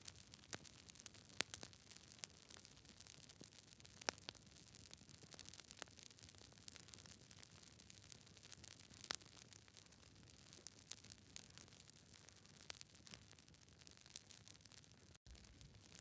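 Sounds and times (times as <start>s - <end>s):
fire popping and snapping: 0.0s - 16.0s.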